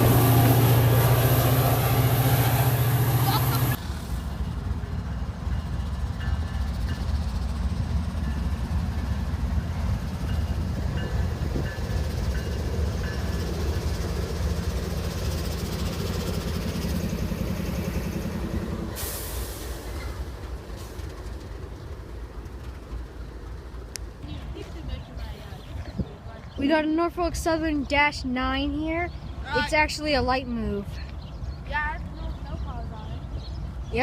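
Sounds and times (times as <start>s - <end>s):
train passing with wheel clatter: 0.0s - 34.0s.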